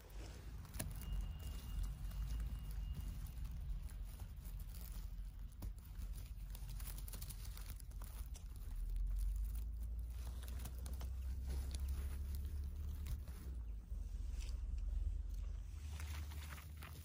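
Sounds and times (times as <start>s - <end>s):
low rumble: 0.0s - 17.0s
moss and twigs rustling: 0.0s - 17.0s.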